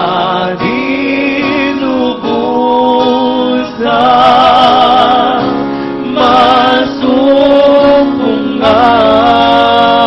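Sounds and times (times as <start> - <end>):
choir singing worship music: 0.0 - 10.0.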